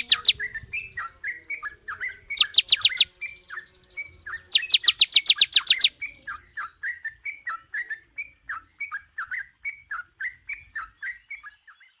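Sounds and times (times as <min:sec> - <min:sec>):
songbird short chirps: 0:00.0 - 0:12.0.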